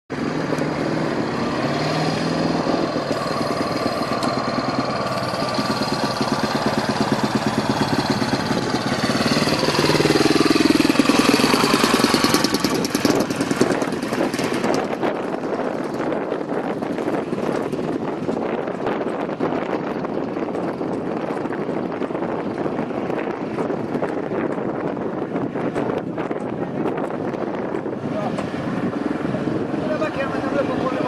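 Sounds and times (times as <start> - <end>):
motorcycle engine racing: 0.1 - 31.0.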